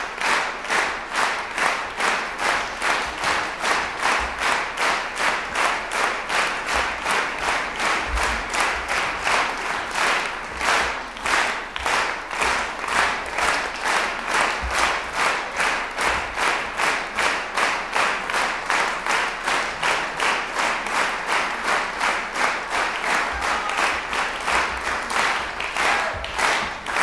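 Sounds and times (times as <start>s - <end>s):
audience clapping in unison: 0.0s - 27.0s.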